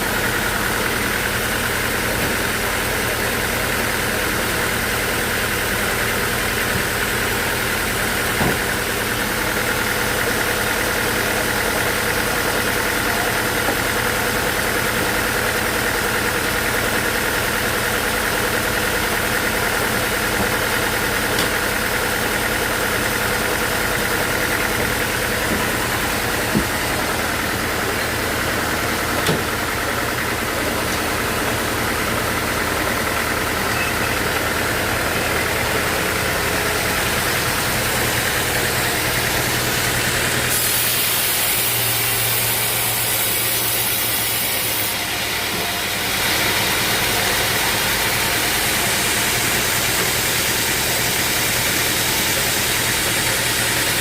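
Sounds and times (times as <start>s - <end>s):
bandsaw sawmill drone: 0.0s - 54.0s.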